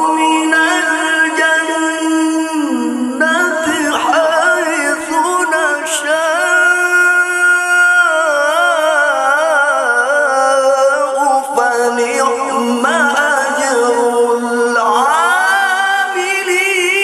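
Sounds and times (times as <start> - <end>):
man reciting melodically into microphone: 0.0 - 17.0.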